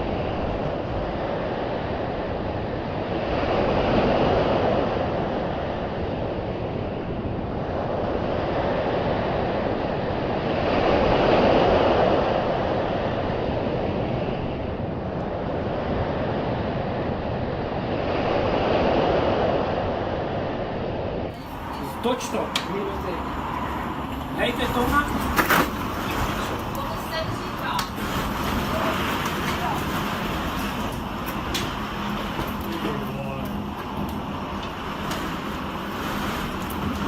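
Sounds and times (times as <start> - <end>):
strong storm wind gusting: 0.0 - 37.0.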